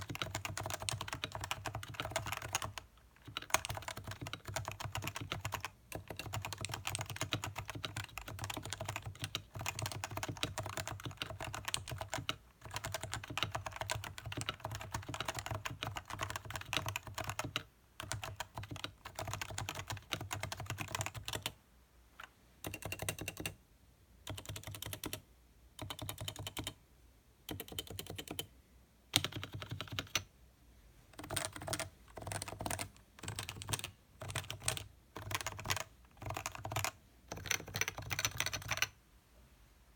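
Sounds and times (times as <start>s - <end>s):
typing on keyboard: 0.0s - 21.6s, 22.6s - 23.6s, 24.3s - 25.2s, 25.8s - 26.8s, 27.5s - 28.5s, 29.1s - 30.3s, 31.2s - 39.0s.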